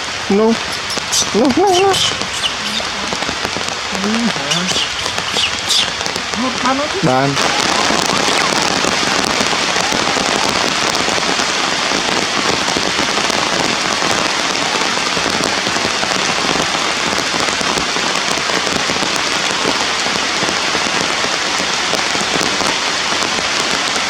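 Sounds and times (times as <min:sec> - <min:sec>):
loud steady rain: 0:00.0 - 0:24.0.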